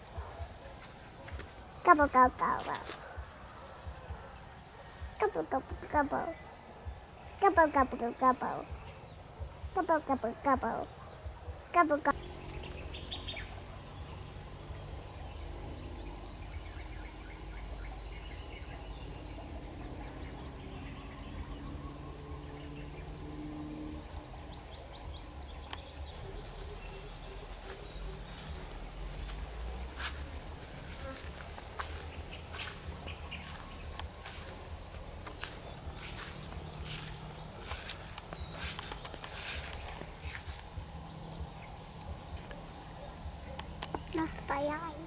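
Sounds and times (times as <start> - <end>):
small birds chirping: 0.0 - 45.0
steady low rumble: 6.8 - 45.0.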